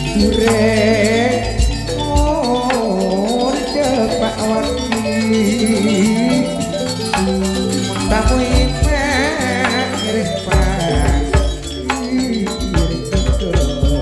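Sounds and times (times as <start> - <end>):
drum strokes: 0.0 - 14.0
gliding melodic line: 0.0 - 14.0
struck metallophones and gongs: 0.0 - 14.0.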